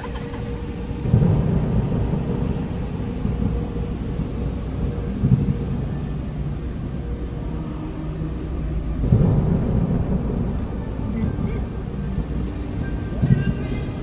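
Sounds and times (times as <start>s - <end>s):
low rumble inside moving car: 0.0s - 14.0s.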